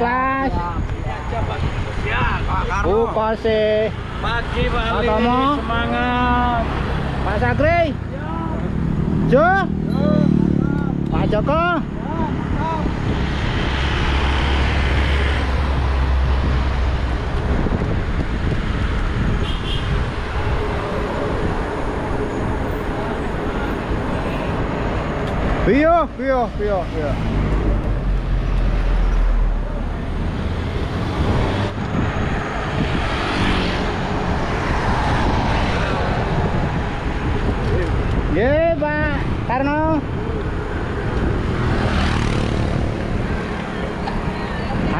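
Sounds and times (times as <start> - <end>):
bicycle tyre road noise: 0.3 - 44.9
wind buffeting microphone: 0.4 - 8.0, 10.5 - 44.9
car passing: 1.2 - 44.9.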